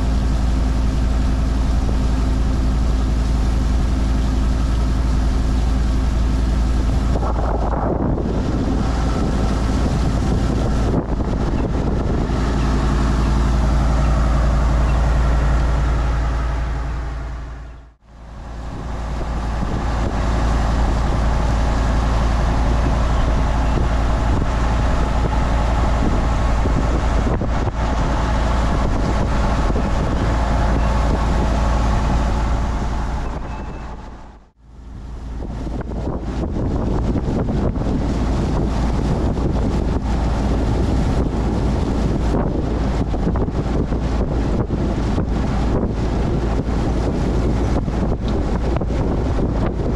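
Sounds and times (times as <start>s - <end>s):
boat engine droning: 0.0s - 49.9s
wind and water rushing: 0.0s - 49.9s.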